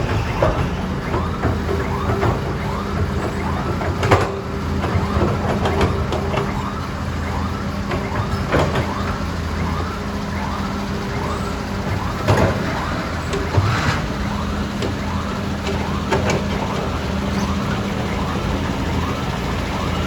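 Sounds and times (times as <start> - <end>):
diesel engine running: 0.0 - 20.0
warbling siren-like tone: 0.0 - 20.0.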